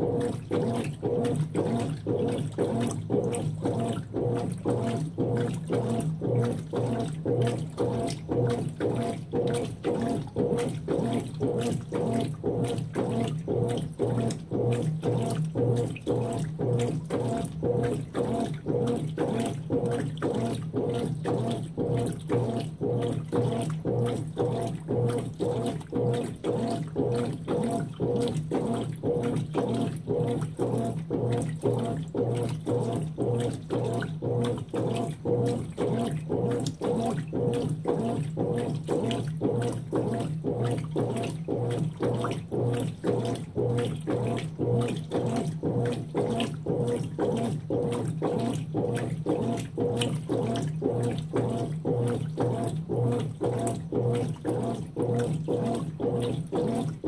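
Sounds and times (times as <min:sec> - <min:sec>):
washing machine motor hum: 0:00.0 - 0:57.0
water and clothes sloshing: 0:00.0 - 0:57.0.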